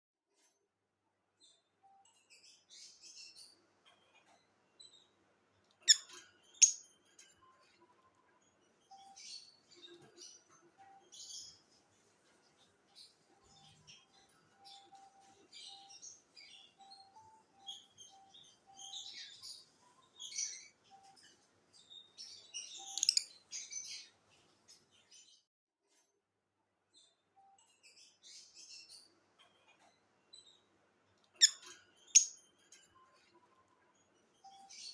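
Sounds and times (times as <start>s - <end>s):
parrots chirping and chattering: 1.4s - 25.4s, 27.0s - 34.9s.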